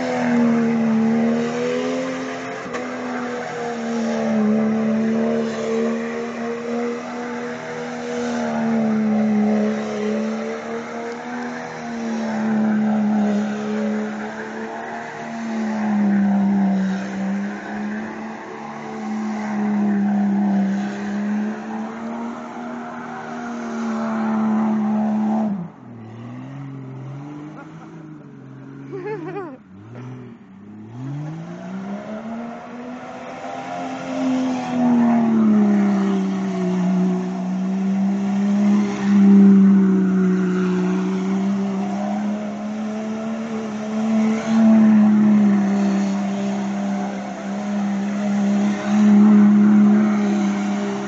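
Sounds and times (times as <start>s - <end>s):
four-wheel-drive engine revving: 0.0s - 51.0s.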